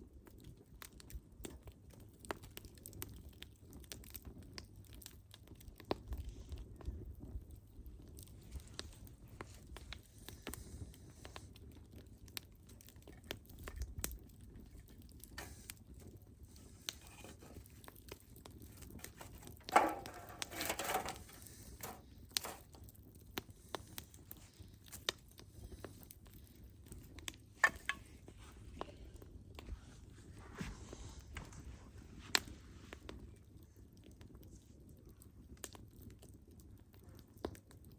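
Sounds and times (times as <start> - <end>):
firewood crackling and popping: 0.0 - 30.4, 31.3 - 37.9.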